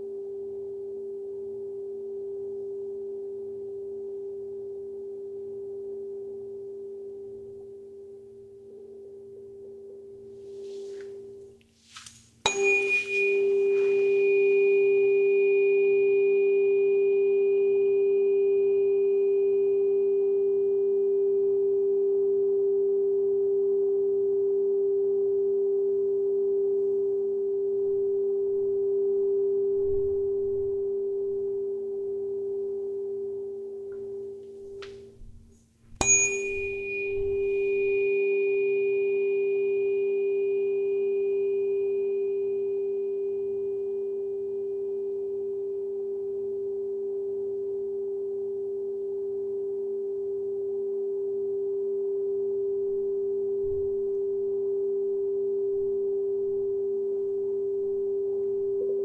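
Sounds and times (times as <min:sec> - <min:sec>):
tuning fork ringing: 0:00.0 - 0:11.6, 0:12.4 - 0:59.0
tuning fork struck: 0:00.0 - 0:11.7, 0:12.4 - 0:59.0.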